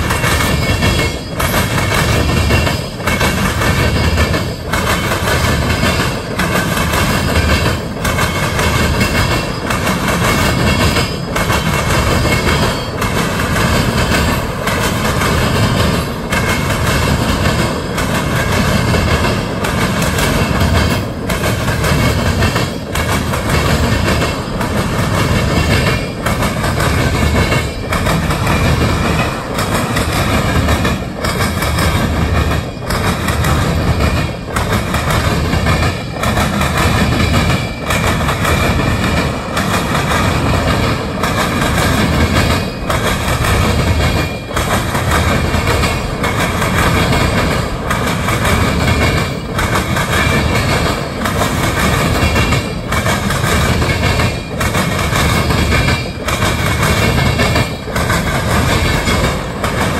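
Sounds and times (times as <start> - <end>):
train wheels clickety-clack on rails: 0.0 - 59.9.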